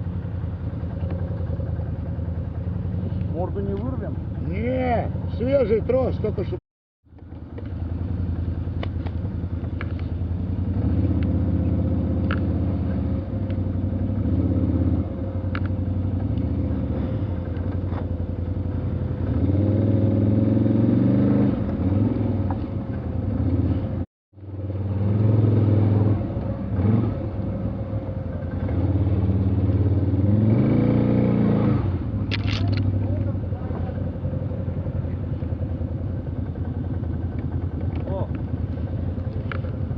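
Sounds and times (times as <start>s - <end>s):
off-road vehicle engine revving: 7.6s - 39.9s.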